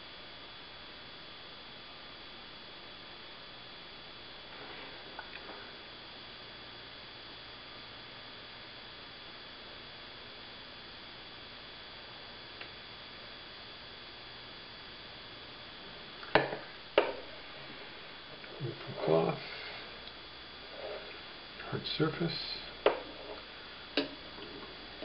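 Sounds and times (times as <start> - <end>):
faint high whine: 0.0 - 25.0
low room hiss: 0.0 - 25.0.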